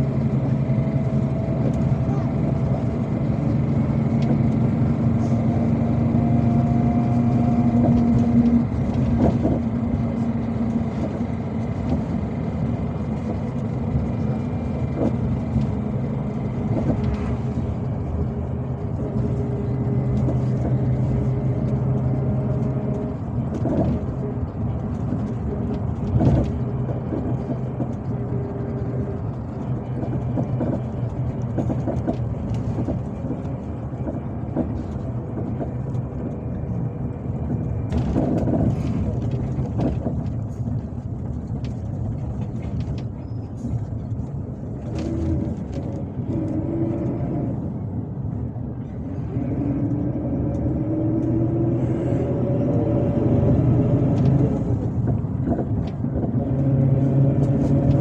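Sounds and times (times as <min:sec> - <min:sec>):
bus diesel engine: 0:00.0 - 0:58.0
road noise: 0:00.0 - 0:58.0.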